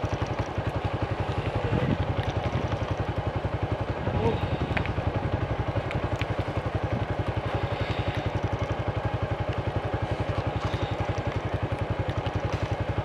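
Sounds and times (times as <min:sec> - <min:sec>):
motorcycle engine running low revs: 0:00.0 - 0:13.0.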